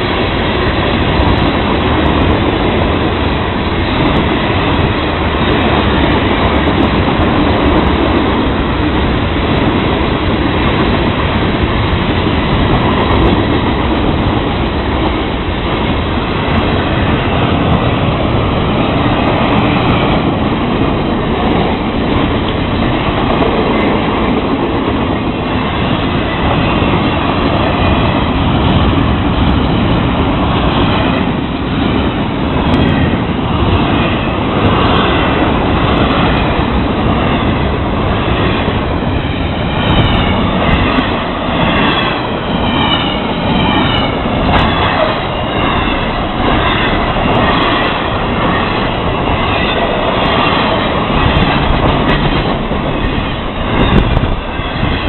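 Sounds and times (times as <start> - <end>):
steel wheels on rails: 0.0 - 55.0.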